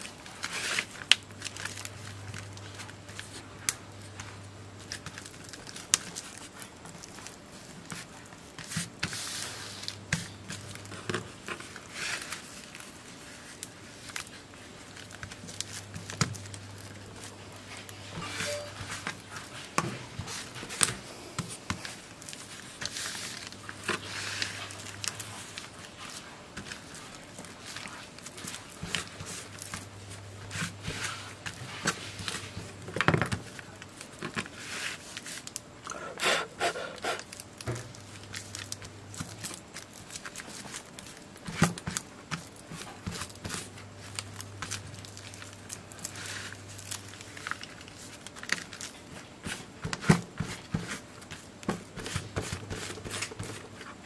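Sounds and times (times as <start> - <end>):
paper rustling and crinkling: 0.0 - 35.7, 37.2 - 54.0.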